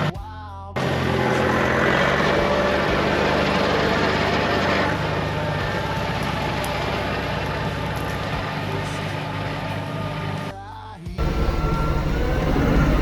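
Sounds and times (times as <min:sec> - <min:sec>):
tractor engine running: 0:00.8 - 0:10.5, 0:11.2 - 0:13.0.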